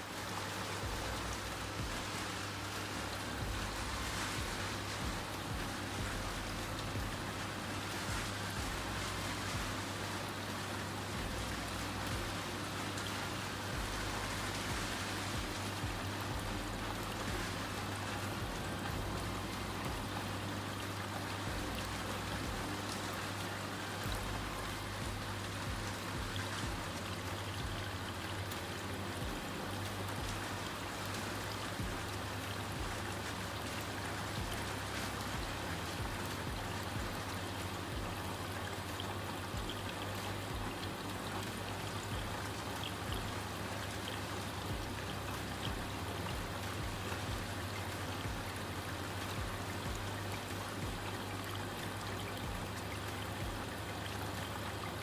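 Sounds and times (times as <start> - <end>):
water running in washing machine: 0.0 - 55.0.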